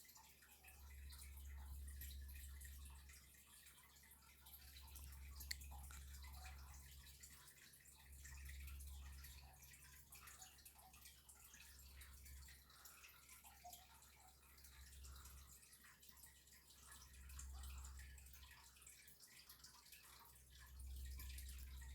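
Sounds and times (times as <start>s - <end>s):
faint small ticks: 0.0s - 21.9s
low steady hum: 0.0s - 21.9s.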